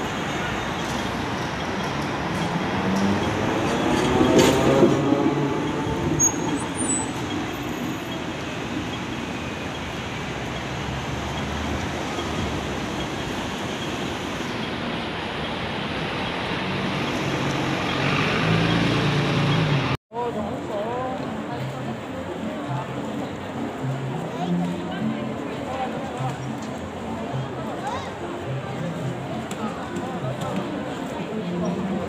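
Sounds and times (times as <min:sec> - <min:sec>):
city street noise: 0:00.0 - 0:32.0
trams running on tracks: 0:00.0 - 0:32.0.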